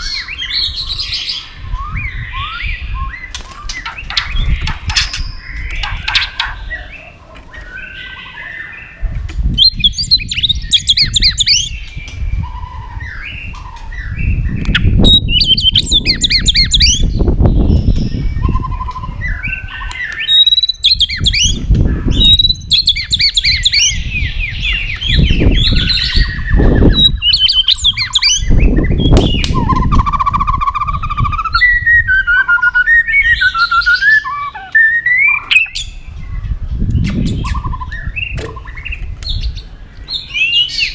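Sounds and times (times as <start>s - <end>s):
bird singing trills and whistles: 0.0s - 40.9s.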